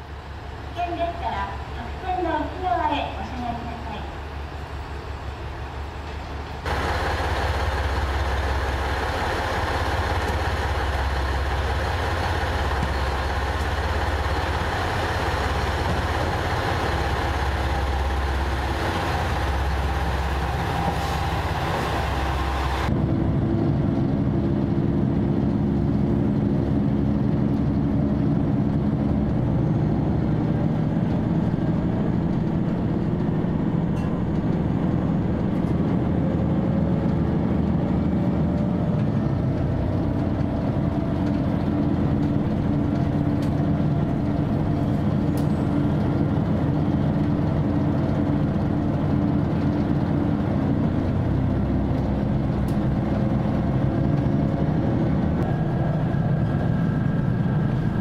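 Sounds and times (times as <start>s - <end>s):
diesel engines idling: 0.0s - 58.0s
train engine inside cabin: 0.0s - 58.0s.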